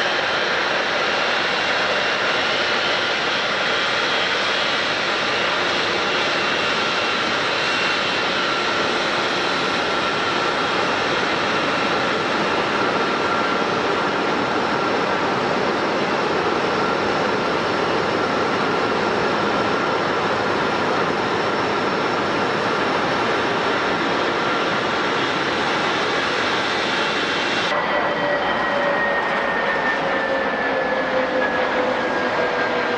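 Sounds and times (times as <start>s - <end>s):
jet engines whining: 0.0s - 32.9s.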